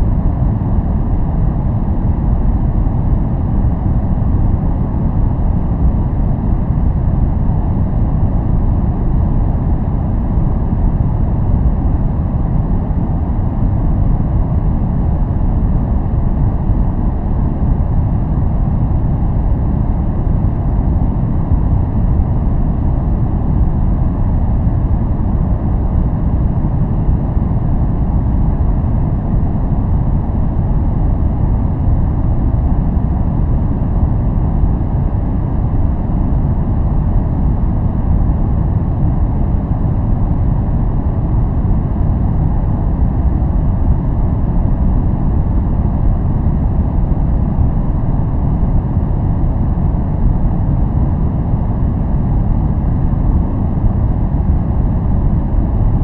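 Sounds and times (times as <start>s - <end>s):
deep steady noise: 0.0s - 56.0s.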